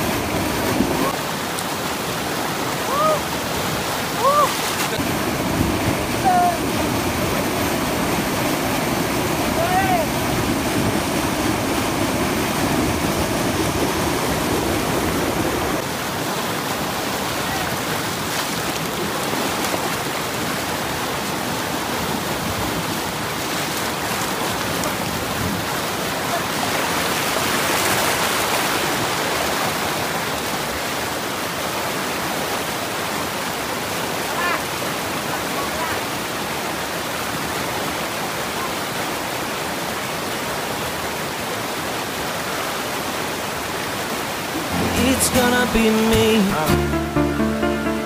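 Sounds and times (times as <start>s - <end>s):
river rapids rushing over boulders: 0.0s - 46.9s.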